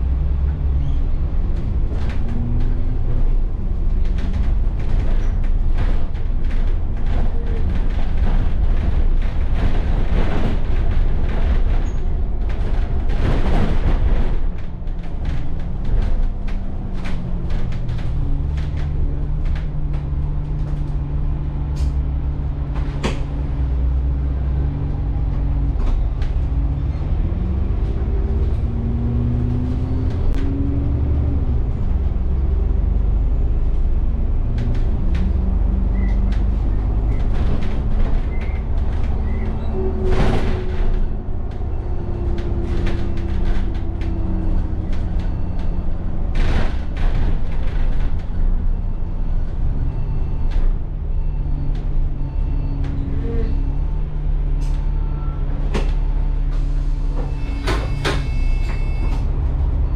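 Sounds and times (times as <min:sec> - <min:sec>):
bus engine droning: 0:00.0 - 0:59.9.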